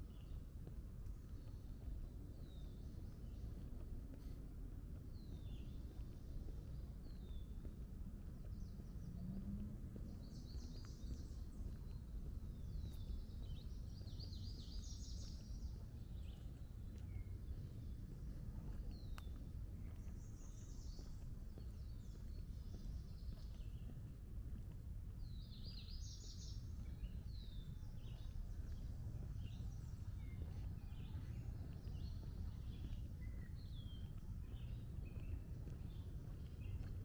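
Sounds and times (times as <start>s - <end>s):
low outdoor rumble: 0.0s - 37.0s
songbirds chirping and trilling: 5.1s - 37.0s.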